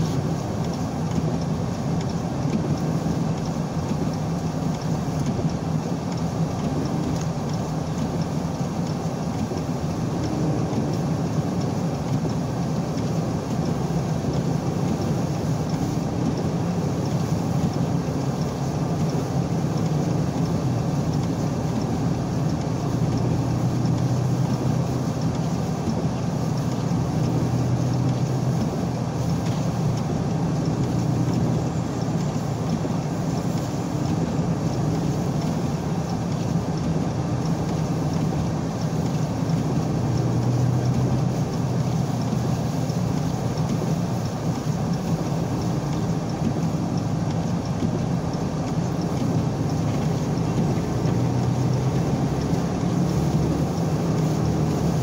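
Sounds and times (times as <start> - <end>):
car engine and tyre drone: 0.0 - 55.0.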